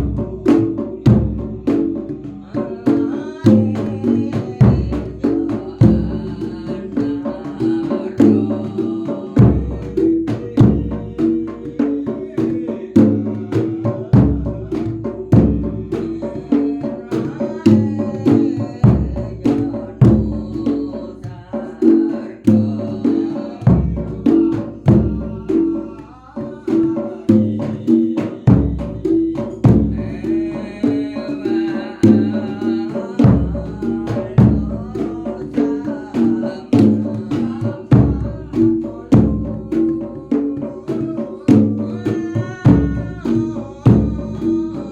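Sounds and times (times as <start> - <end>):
folk percussion ensemble: 0.0 - 44.9.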